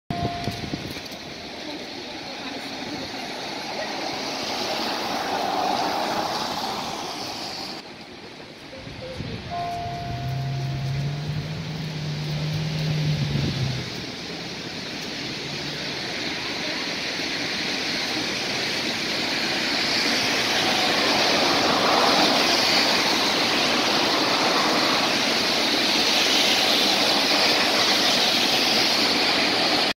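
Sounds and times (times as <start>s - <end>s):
tyres hissing on wet road: 0.4s - 8.8s, 10.2s - 30.0s.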